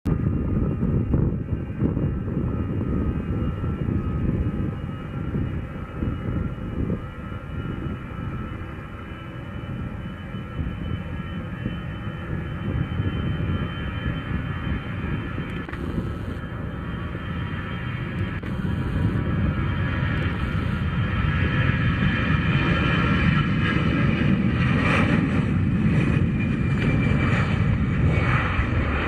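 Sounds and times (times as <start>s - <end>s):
jet engines deep rumble: 0.0s - 29.0s
faint steady engine whine: 0.1s - 29.0s.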